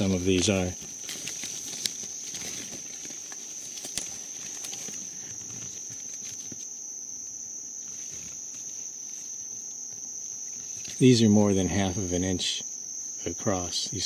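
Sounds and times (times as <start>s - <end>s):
leaves rustling: 0.0s - 12.2s
high-pitched insect trill: 0.0s - 14.0s.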